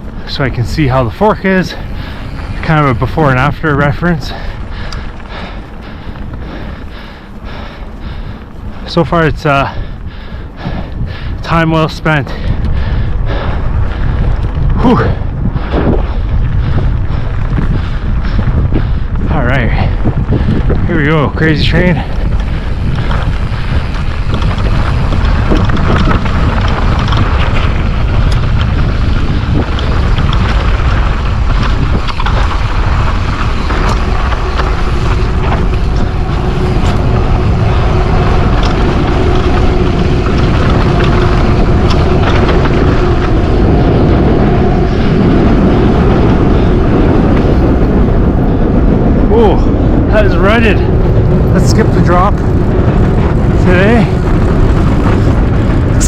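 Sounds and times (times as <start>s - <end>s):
bike rattling and clicking: 0.0s - 56.0s
wind buffeting microphone: 0.0s - 56.0s.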